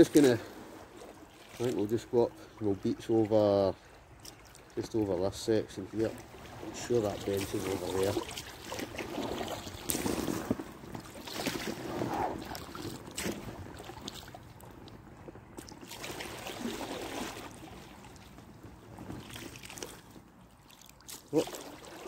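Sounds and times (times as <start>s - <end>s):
paddle splashing in water: 0.0s - 3.3s, 3.9s - 4.8s, 5.9s - 22.0s.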